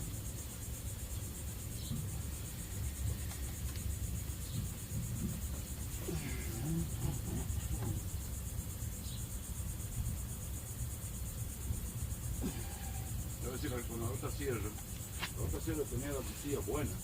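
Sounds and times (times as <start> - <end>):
insect chorus chirring: 0.0 - 17.0
low continuous rumble: 0.0 - 17.0.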